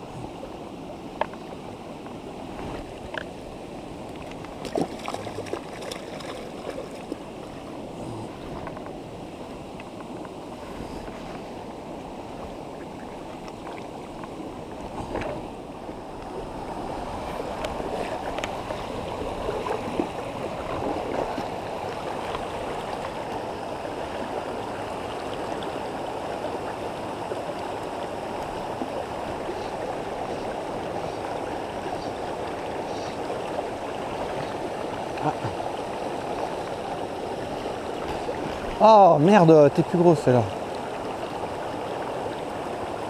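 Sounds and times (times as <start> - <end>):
stream rushing over stones: 0.0 - 43.0.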